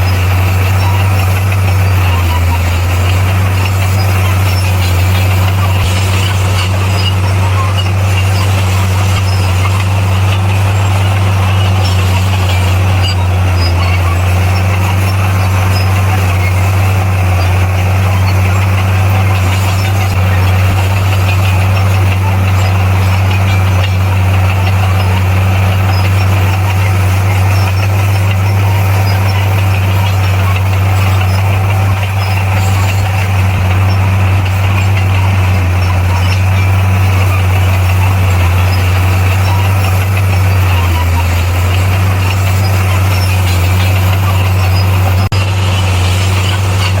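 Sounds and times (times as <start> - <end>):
bulldozer diesel engine droning: 0.0 - 47.0.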